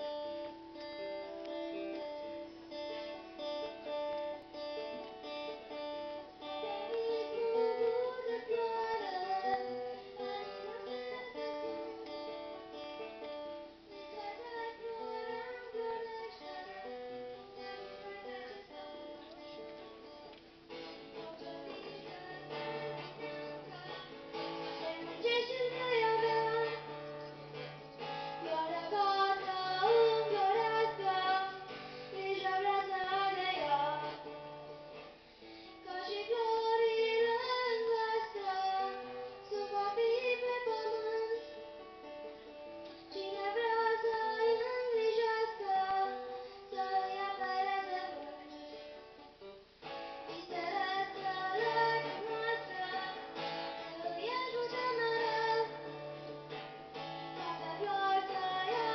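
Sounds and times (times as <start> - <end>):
acoustic guitar strumming: 0.0 - 58.9
girl singing folk song: 0.0 - 58.9.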